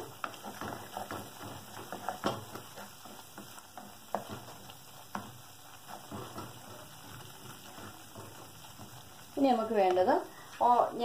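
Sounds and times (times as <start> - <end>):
spatula scraping a pot: 0.0 - 9.7
spices frying in oil: 0.0 - 11.0.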